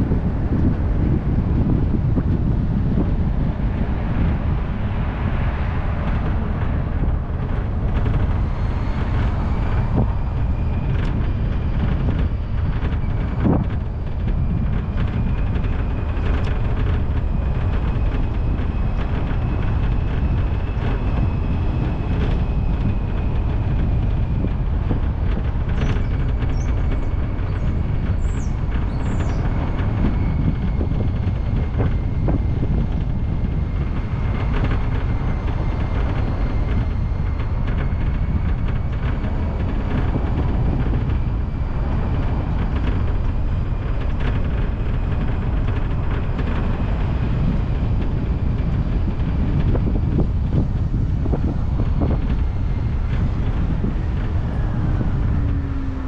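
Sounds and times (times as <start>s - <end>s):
car tyres and engine rumbling: 0.0s - 56.0s.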